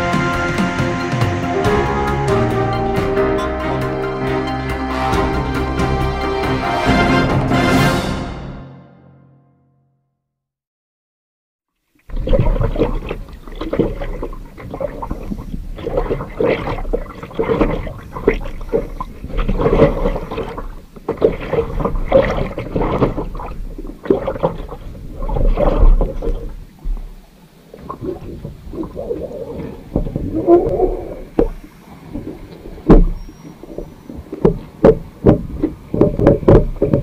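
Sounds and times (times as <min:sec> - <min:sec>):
water rushing and gurgling: 0:00.0 - 0:08.3, 0:11.8 - 0:37.0.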